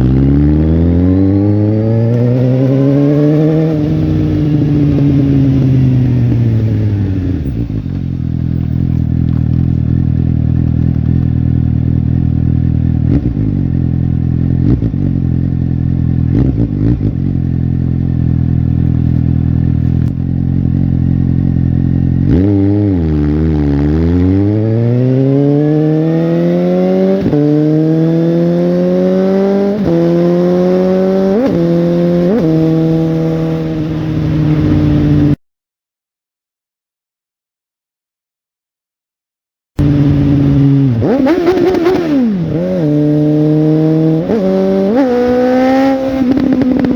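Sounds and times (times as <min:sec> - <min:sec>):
motorcycle engine accelerating: 0:00.0 - 0:35.4, 0:39.8 - 0:46.9.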